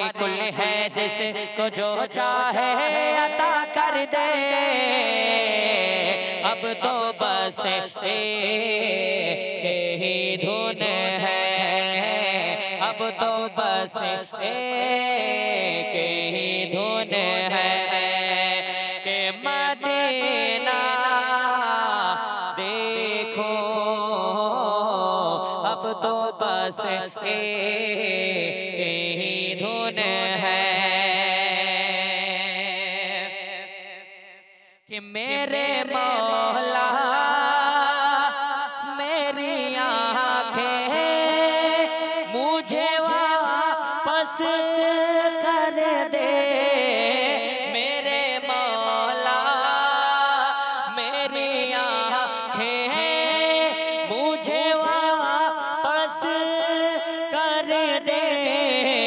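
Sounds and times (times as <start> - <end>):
boy singing into a microphone: 0.0 - 33.3, 34.9 - 59.0.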